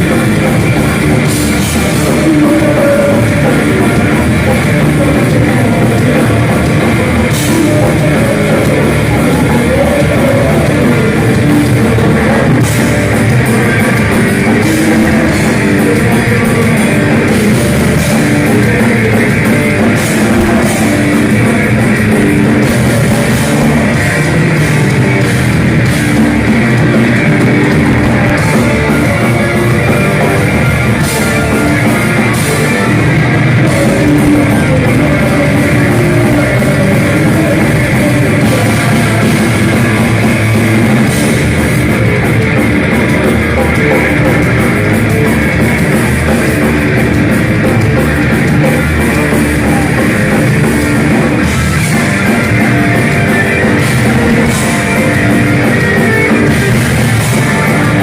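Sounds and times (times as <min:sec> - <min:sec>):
distorted electric guitars: 0:00.0 - 0:58.0
drum kit: 0:00.0 - 0:58.0.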